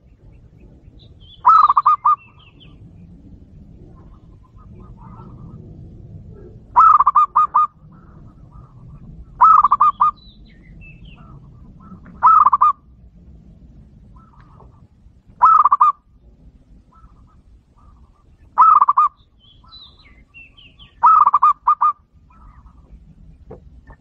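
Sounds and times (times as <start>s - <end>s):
dove cooing: 1.1s - 12.9s, 14.0s - 16.1s, 16.7s - 24.0s.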